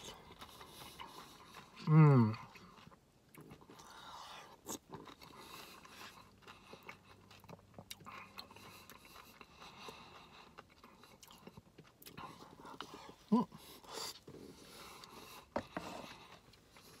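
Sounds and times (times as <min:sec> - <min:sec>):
soft wet chewing: 0:00.0 - 0:17.0.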